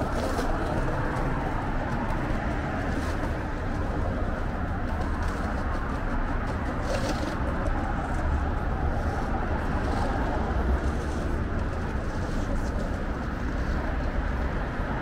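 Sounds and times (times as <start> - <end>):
low rumble of passing cars: 0.0 - 15.0.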